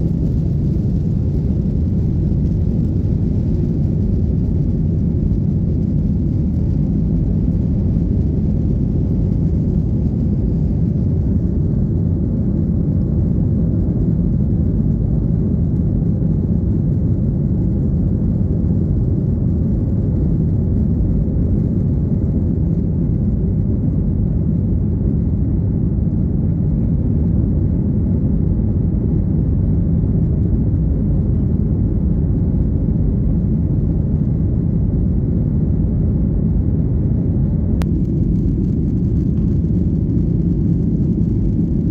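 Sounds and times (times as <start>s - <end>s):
jet airliner cabin rumble: 0.0s - 41.9s.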